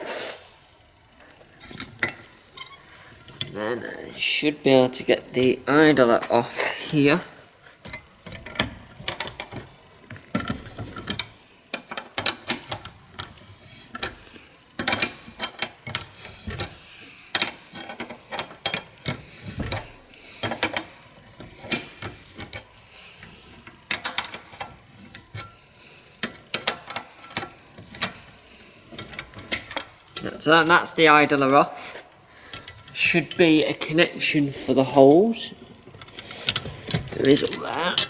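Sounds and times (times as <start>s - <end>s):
hand tools clicking on metal: 1.2s - 3.7s, 7.8s - 31.0s, 32.4s - 38.0s.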